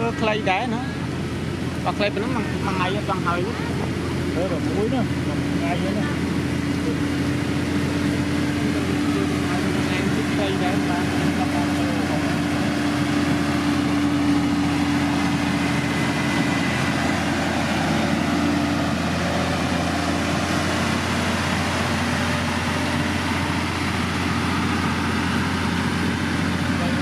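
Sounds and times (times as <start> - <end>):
heavy machinery diesel engine running: 0.0 - 27.0
higher engine note: 0.0 - 27.0.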